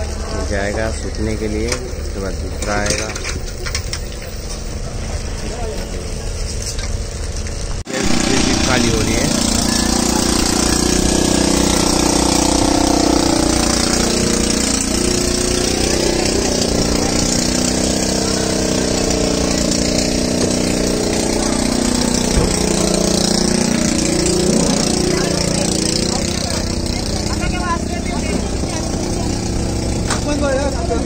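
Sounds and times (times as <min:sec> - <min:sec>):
heavy engine idling: 0:00.0 - 0:31.0.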